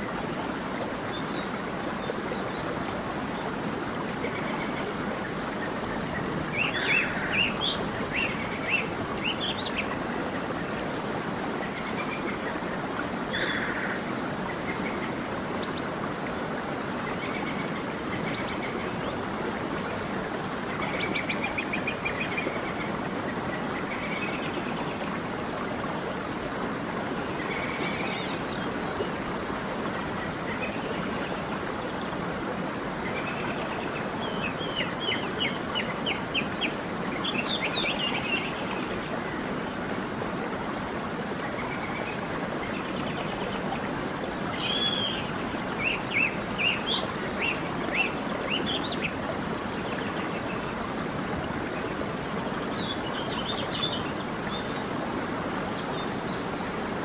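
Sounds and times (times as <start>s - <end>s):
creek running: 0.0s - 57.0s.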